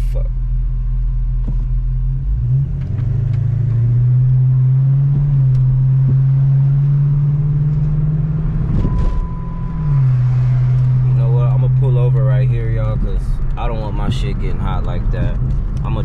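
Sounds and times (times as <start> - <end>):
car engine running while driving: 0.0 - 16.0.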